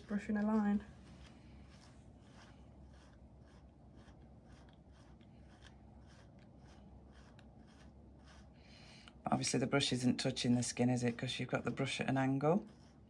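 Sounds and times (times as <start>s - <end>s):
brush strokes through dog fur: 0.0s - 13.0s.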